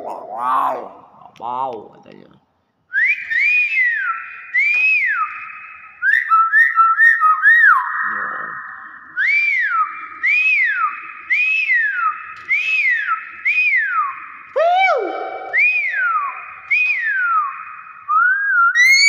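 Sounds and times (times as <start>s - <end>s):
bird whistling: 2.9s - 19.0s.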